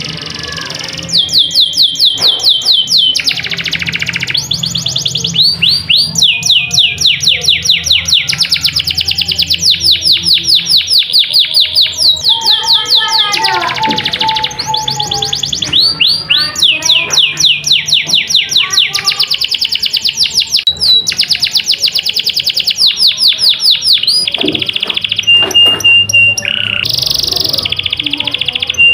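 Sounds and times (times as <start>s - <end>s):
canary singing trills: 0.0s - 28.9s.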